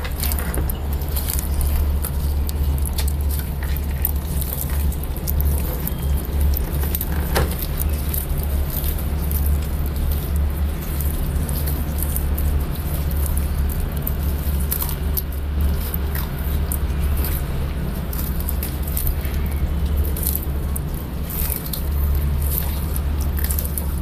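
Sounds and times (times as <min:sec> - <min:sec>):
steady low hum: 0:00.0 - 0:24.0
tortoises biting leaves: 0:00.0 - 0:24.0.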